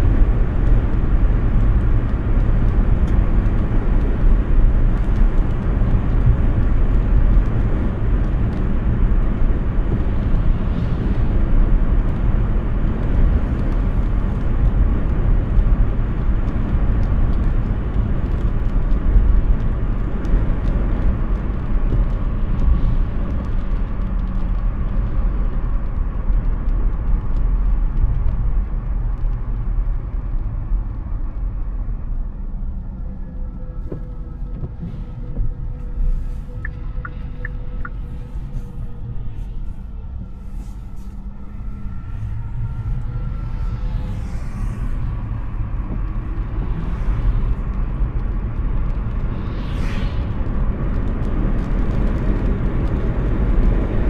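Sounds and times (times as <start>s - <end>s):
tyre and wind noise: 0.0s - 54.0s.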